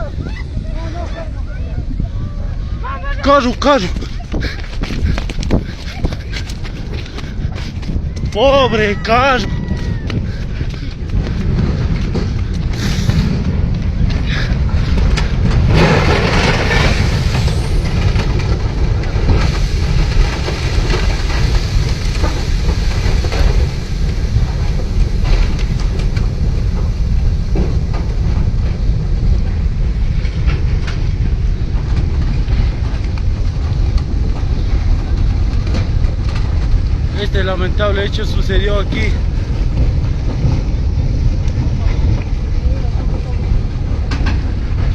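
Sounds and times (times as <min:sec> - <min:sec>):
mud and rock rumbling: 0:00.0 - 0:44.9.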